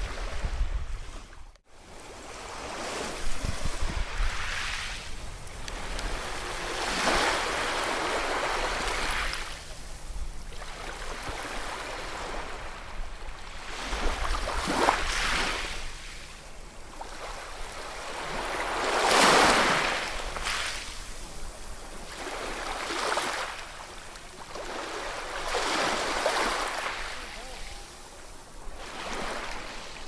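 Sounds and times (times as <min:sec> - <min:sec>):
sea waves surging and receding: 0:00.0 - 0:30.0.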